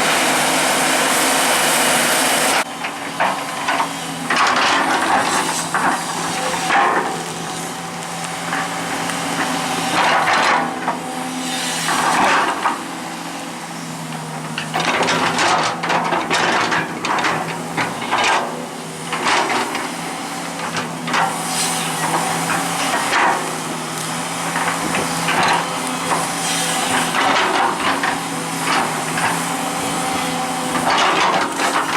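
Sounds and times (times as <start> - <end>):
excavator engine running: 0.0 - 31.9.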